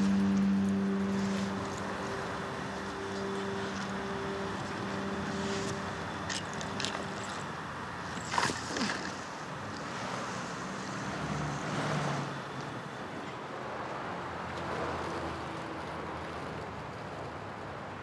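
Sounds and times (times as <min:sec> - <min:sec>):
passing cars: 0:00.0 - 0:18.0.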